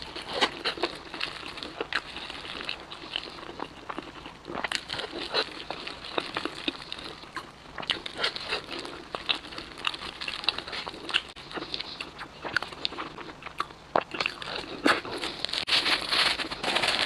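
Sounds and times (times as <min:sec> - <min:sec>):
crunching fried chicken: 0:00.0 - 0:17.0.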